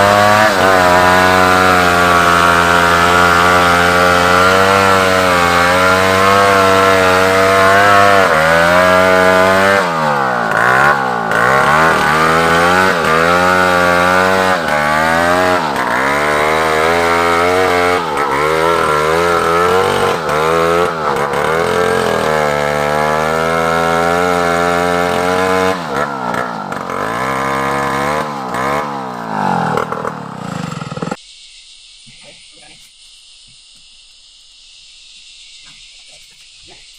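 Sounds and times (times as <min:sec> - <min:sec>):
chainsaw cutting wood: 0:00.0 - 0:31.2.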